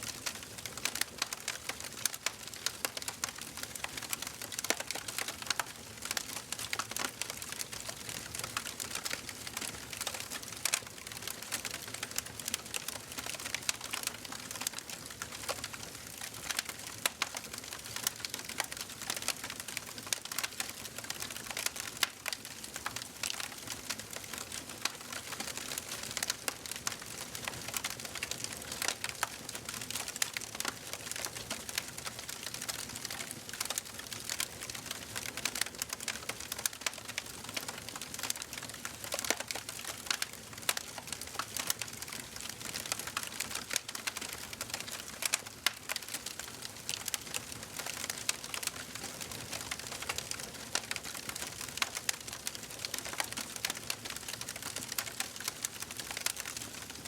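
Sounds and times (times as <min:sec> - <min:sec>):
fire crackling in fireplace: 0:00.1 - 0:57.0.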